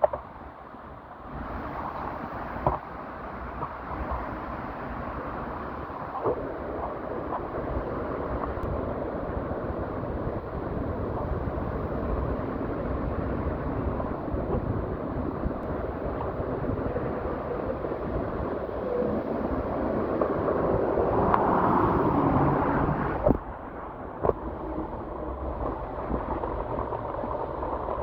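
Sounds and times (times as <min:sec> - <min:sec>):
wind rushing over microphone: 0:00.0 - 0:28.0
road noise: 0:01.4 - 0:28.0.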